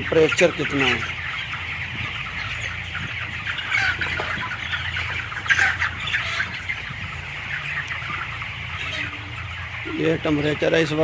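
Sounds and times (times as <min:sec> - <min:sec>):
chickens clucking and calling: 0:00.0 - 0:11.0
ventilation fans humming: 0:00.0 - 0:11.0.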